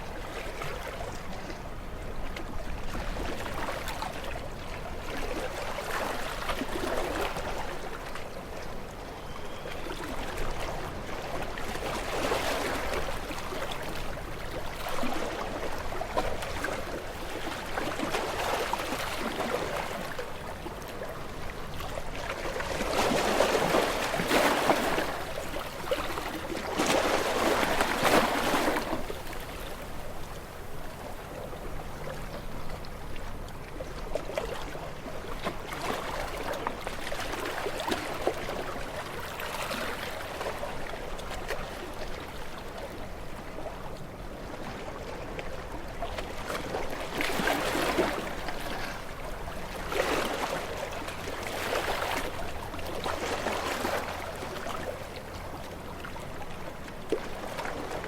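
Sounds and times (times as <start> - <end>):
small waves washing onto shore: 9.9 - 58.0.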